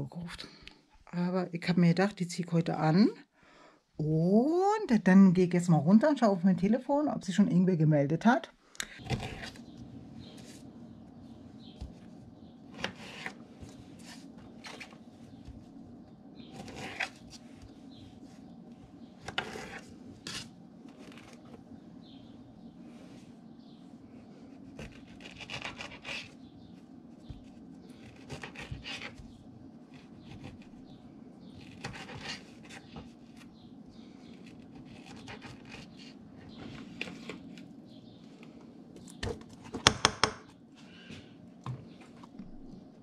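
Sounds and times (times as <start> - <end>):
steady low hum: 0.0 - 39.8.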